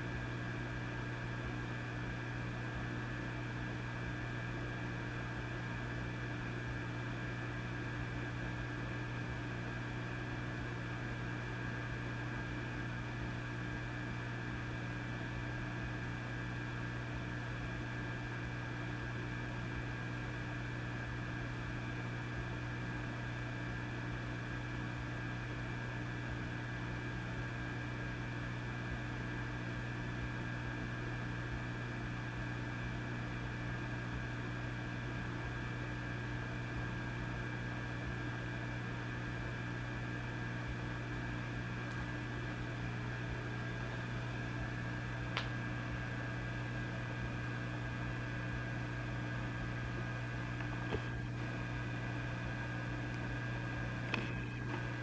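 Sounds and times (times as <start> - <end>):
amplifier hum: 0.0 - 55.0.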